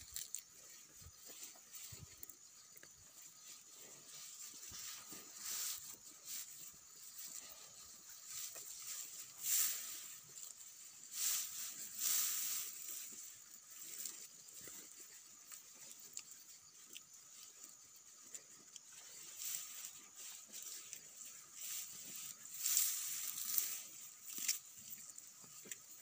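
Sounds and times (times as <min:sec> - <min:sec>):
cow tearing and chewing grass: 0:00.0 - 0:26.0.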